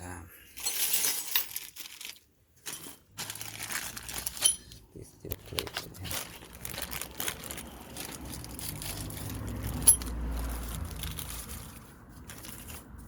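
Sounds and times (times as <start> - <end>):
small metal parts rattling: 0.5 - 4.8, 5.4 - 13.0.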